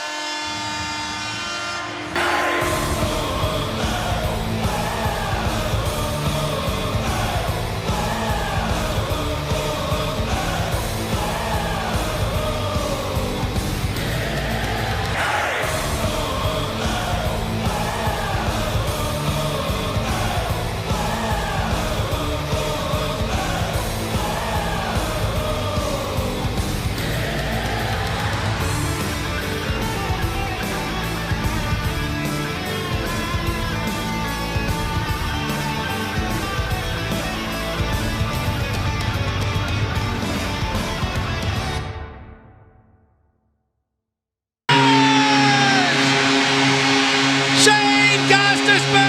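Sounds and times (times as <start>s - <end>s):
distorted guitars: 0.0s - 42.0s, 44.7s - 49.0s
heavy rock music with shouted vocals: 2.2s - 41.8s, 44.7s - 49.0s.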